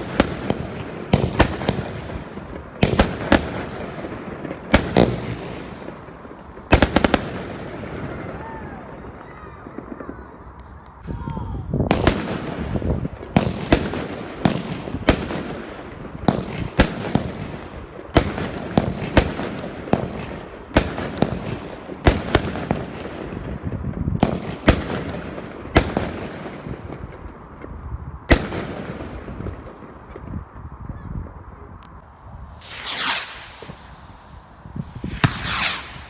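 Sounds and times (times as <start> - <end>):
fireworks bangs: 0.0 - 30.6, 32.0 - 36.0
fireworks crackle: 0.0 - 30.7, 31.7 - 36.0.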